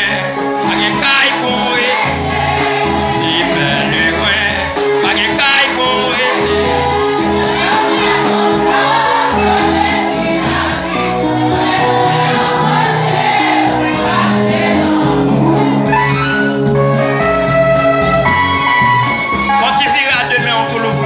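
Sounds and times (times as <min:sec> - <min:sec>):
congregation singing: 0:00.0 - 0:17.0
instrumental accompaniment: 0:00.0 - 0:21.0.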